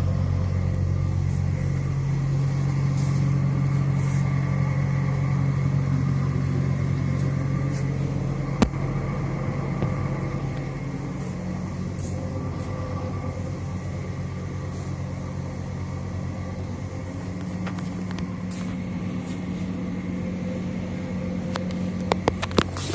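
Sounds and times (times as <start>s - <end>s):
engine humming: 0.0s - 22.9s.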